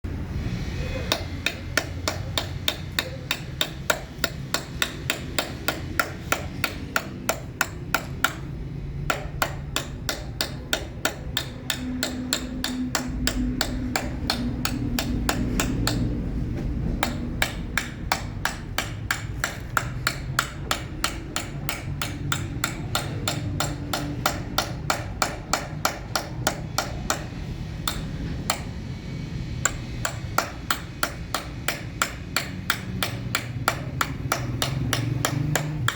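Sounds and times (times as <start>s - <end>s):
steady low hum: 0.1s - 35.9s
hammer tapping chisel on stone: 1.1s - 28.8s, 29.6s - 35.9s.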